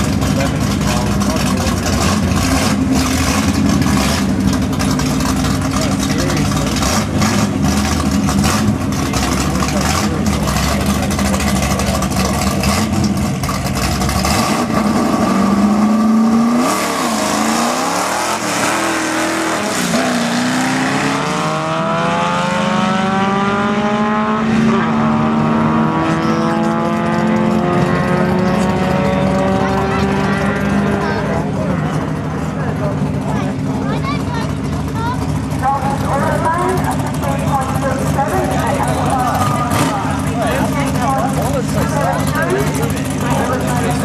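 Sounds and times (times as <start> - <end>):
drag car engines revving: 0.0 - 44.0.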